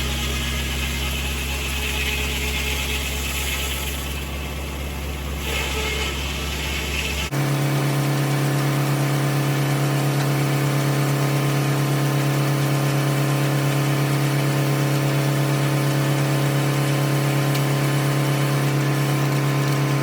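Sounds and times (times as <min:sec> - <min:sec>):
tractor engine driving sawmill: 0:00.0 - 0:20.0.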